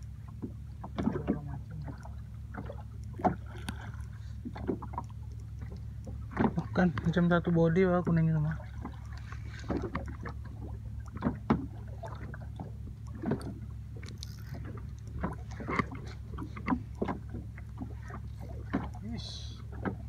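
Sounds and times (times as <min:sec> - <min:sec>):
steady low rumble: 0:00.0 - 0:20.0
water slapping against boat: 0:00.0 - 0:20.0.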